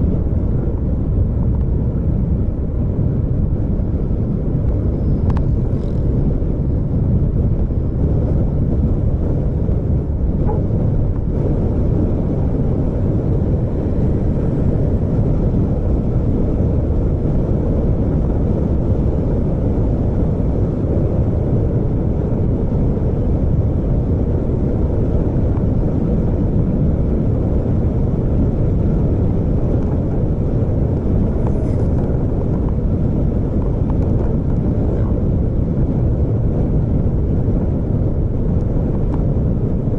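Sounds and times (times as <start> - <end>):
vehicle rumbling on road: 0.0 - 39.9.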